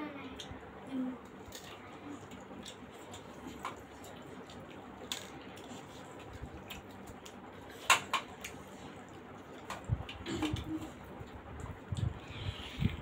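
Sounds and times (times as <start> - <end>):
people chewing food: 0.3 - 13.0.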